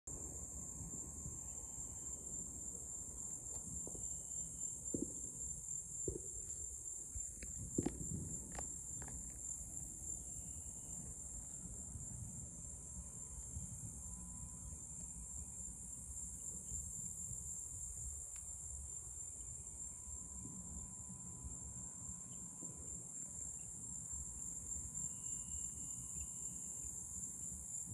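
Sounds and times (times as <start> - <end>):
crickets chirping: 0.1 - 27.9.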